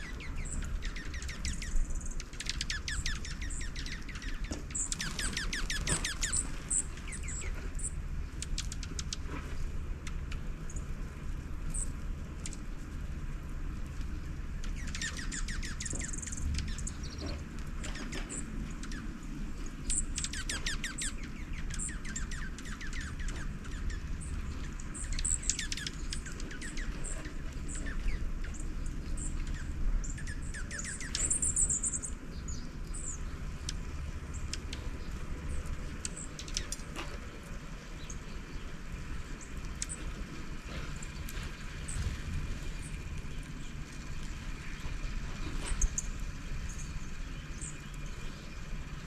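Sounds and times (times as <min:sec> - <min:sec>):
songbirds chirping: 0:00.0 - 0:49.0
steady low rumble: 0:00.0 - 0:49.0.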